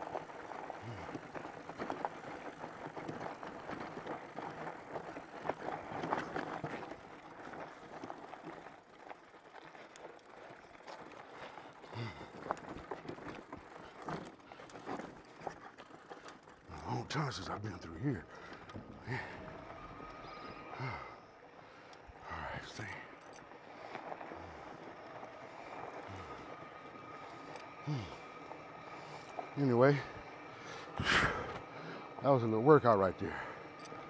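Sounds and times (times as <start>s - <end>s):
tyre noise on dirt trail: 0.0s - 34.0s.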